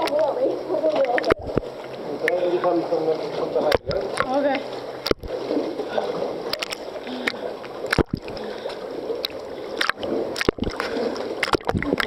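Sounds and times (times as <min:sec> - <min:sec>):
water sloshing and gurgling: 0:00.0 - 0:12.0
water splashes: 0:00.0 - 0:12.0.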